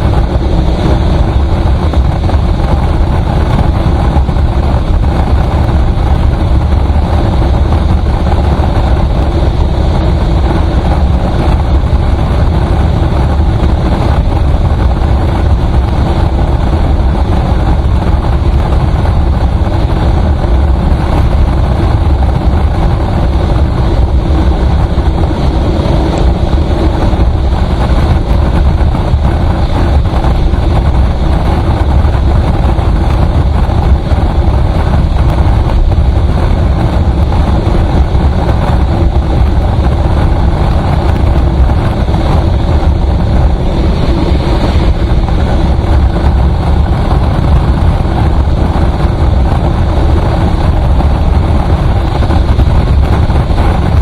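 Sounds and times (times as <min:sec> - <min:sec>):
low engine drone: 0:00.0 - 0:54.0
road and wind noise: 0:00.0 - 0:54.0.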